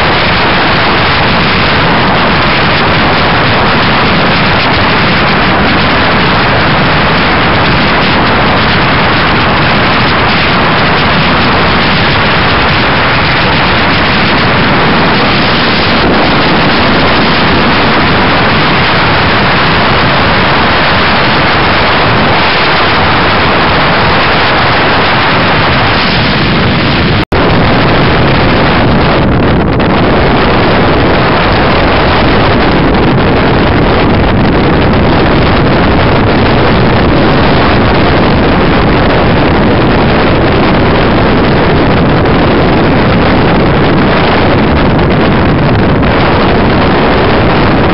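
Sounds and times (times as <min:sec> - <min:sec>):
wind noise on motorcycle: 0:00.0 - 0:47.9.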